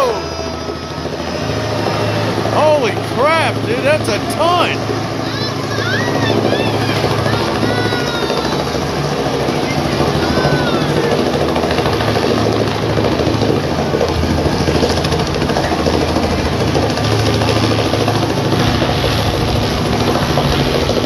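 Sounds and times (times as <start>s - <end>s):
helicopter engine drone: 0.0s - 21.0s
helicopter rotor beating: 0.0s - 21.0s.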